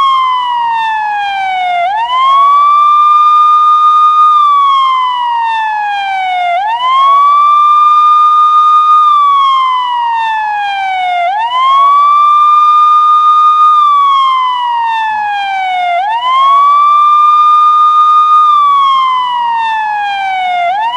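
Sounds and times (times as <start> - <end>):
police siren wailing: 0.0 - 20.9.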